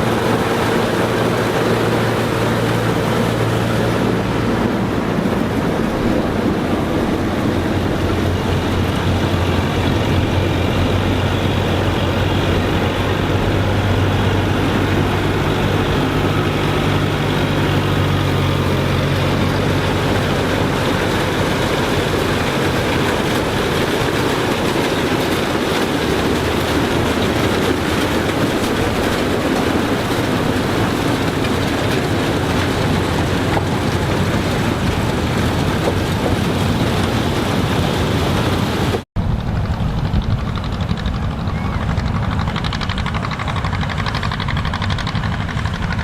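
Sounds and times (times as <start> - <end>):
harvesting machinery engine din: 0.0 - 46.0.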